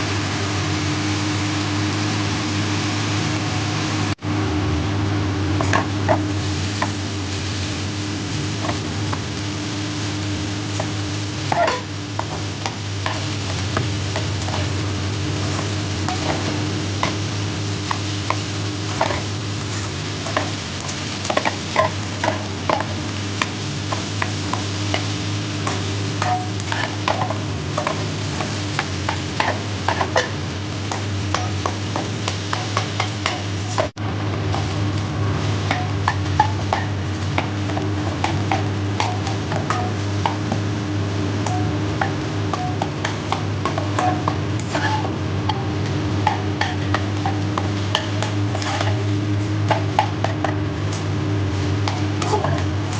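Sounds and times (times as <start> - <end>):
light sizzle: 0.0 - 52.9
steady low hum: 0.0 - 52.9
spatula scraping a wok: 5.6 - 52.9.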